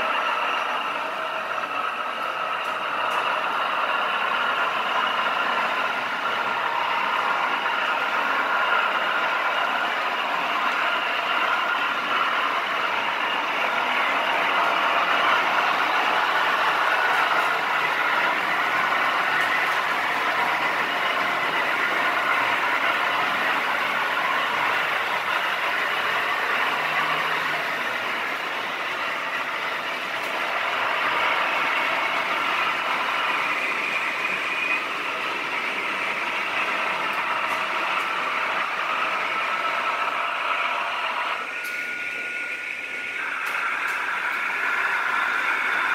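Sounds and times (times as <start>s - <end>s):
locomotive motor hum: 0.0s - 45.9s
model train wheels rattling on rails: 0.0s - 45.9s.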